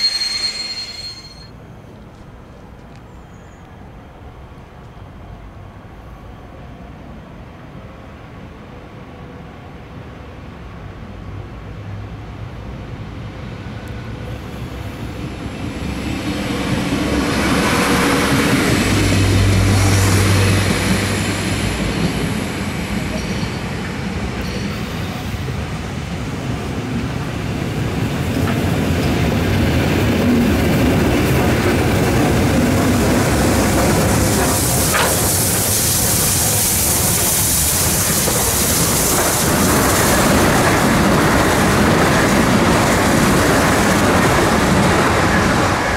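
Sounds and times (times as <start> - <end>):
train rolling noise: 0.0 - 3.1, 12.1 - 45.9.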